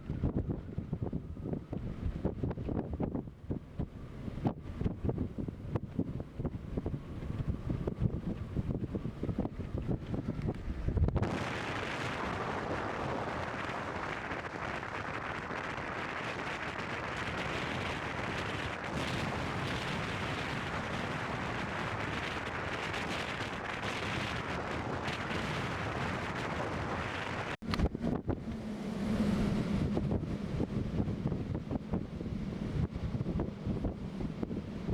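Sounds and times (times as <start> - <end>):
strong wind buffeting microphone: 0.0 - 34.9.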